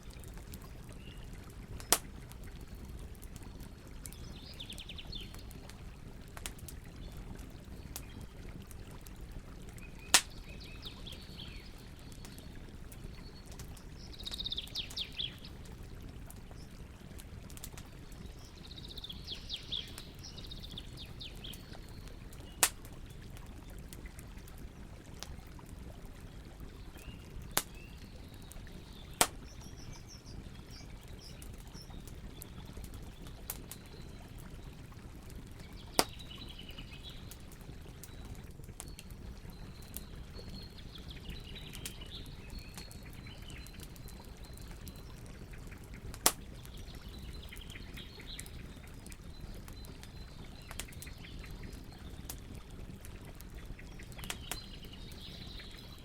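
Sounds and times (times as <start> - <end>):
small birds chirping: 0.0 - 9.0, 9.6 - 25.0, 26.2 - 56.0
campfire crackling and popping: 0.0 - 56.0.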